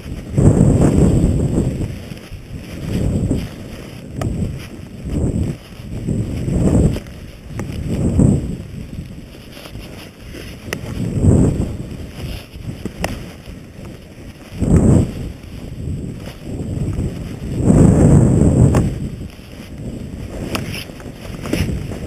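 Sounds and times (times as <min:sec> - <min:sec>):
skis running through powder: 0:00.0 - 0:22.0
wind rushing over microphone: 0:00.0 - 0:22.0.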